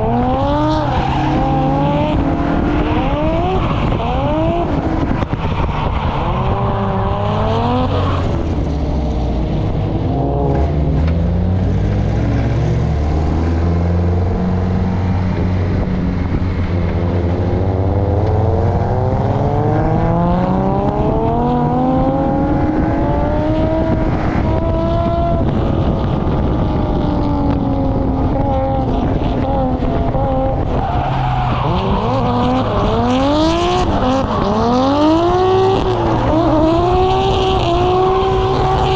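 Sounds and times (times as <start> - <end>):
racing car engines: 0.0 - 38.9.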